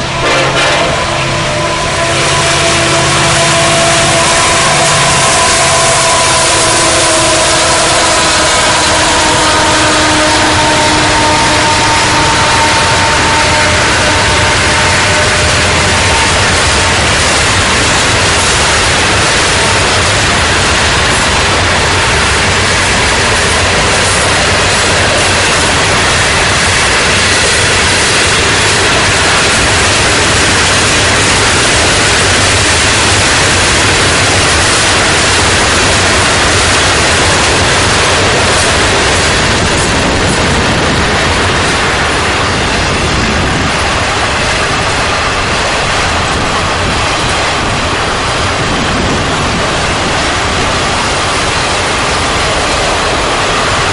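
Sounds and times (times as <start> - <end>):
freight train rolling past: 0.0 - 53.9.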